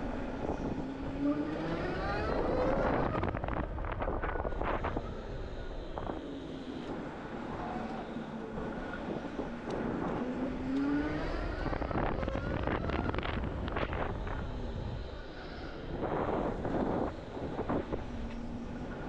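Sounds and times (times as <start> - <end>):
electric motorcycle motor whine: 0.0 - 19.0
wind across microphone: 0.0 - 19.0.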